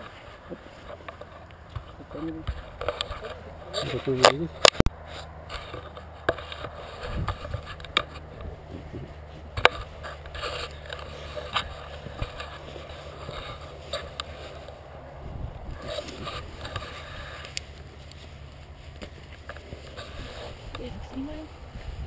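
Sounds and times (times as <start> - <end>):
camera handling rustling: 0.0 - 14.9, 15.7 - 20.9.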